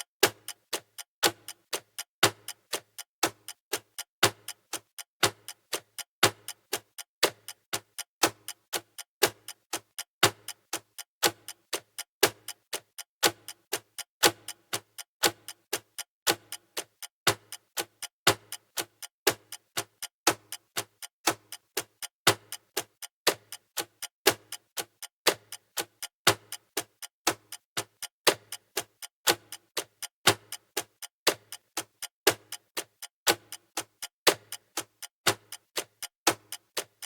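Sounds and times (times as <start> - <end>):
countdown timer ticking: 0.0 - 37.0.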